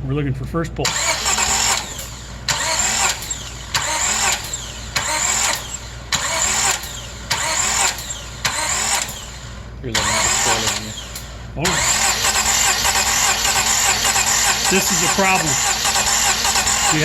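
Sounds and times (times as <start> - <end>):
starter motor cranking engine: 0.8 - 17.0.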